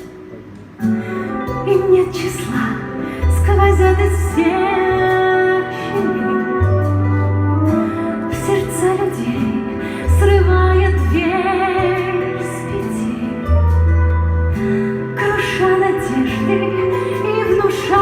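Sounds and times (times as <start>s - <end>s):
backing track with bass notes: 0.0s - 18.0s
woman singing pop song: 0.8s - 18.0s.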